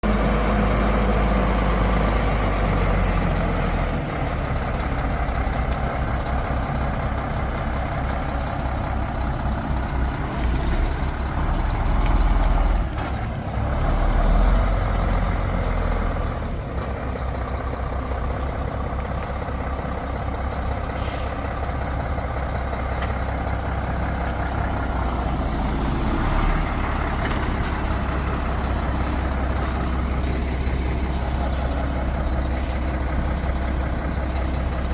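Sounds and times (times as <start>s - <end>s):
diesel truck engine droning: 0.0s - 34.9s.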